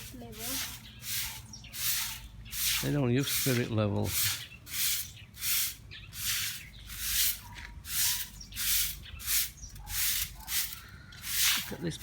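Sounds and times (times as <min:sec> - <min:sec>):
broom sweeping hard surface: 0:00.0 - 0:12.0.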